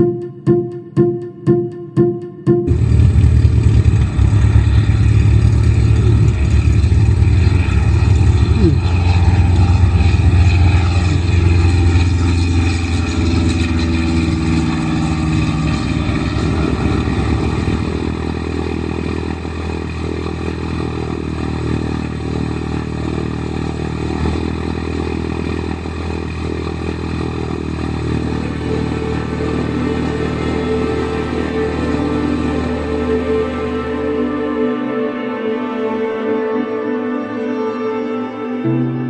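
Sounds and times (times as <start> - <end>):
engine drone inside cockpit: 0.0 - 38.5
light aircraft engine drone: 2.7 - 38.8.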